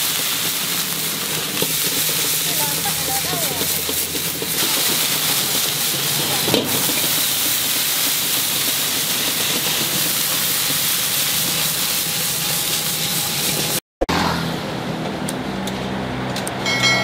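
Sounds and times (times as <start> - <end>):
noodles sizzling in a wok: 0.0 - 13.8.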